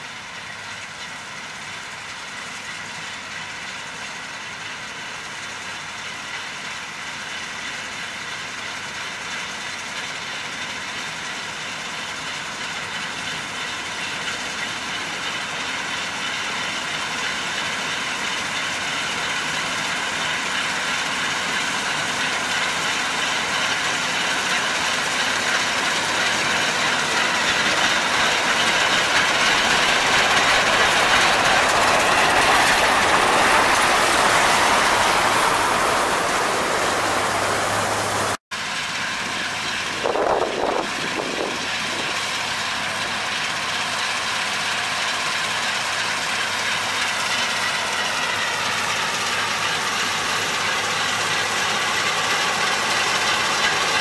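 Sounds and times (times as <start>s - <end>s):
combine harvester rattle and drone: 0.0s - 54.0s.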